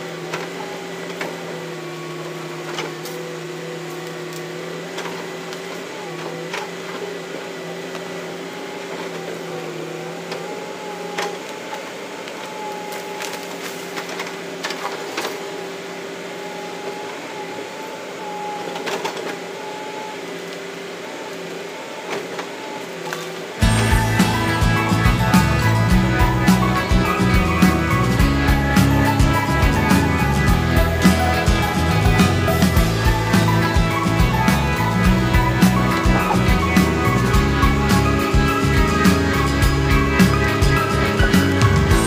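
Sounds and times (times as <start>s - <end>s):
diesel engine running: 0.0s - 42.0s
hydraulic whine: 0.0s - 42.0s.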